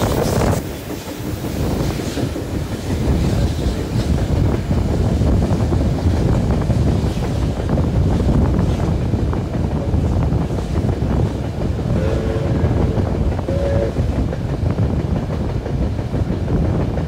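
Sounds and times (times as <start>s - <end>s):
train rumbling on rails: 0.0s - 17.0s
wind buffeting microphone: 0.0s - 17.0s.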